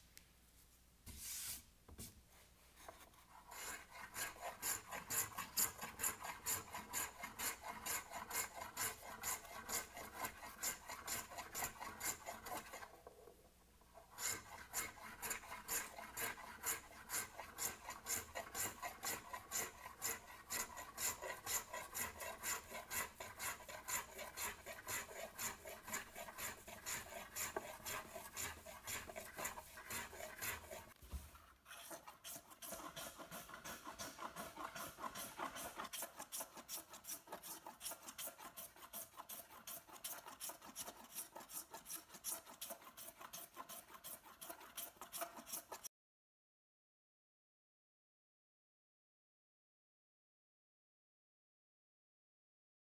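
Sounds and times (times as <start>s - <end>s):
hand plane scraping wood: 2.7s - 13.3s, 13.9s - 45.9s.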